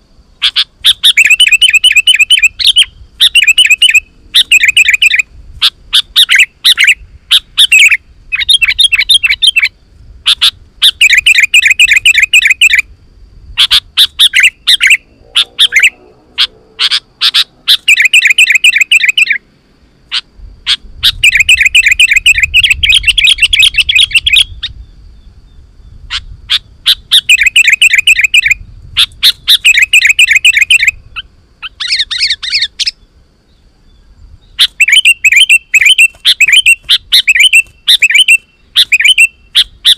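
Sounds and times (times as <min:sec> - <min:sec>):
bird singing chattering whistles: 0:00.4 - 0:09.7, 0:10.3 - 0:12.9, 0:13.6 - 0:19.4, 0:20.1 - 0:33.1, 0:33.9 - 0:39.9.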